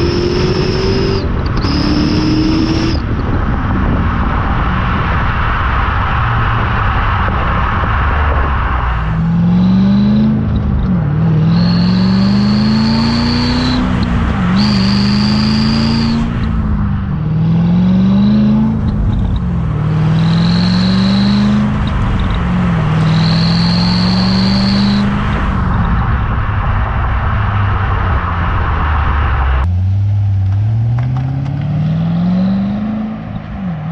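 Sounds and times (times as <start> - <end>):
car exhaust revving: 0.0 - 33.9.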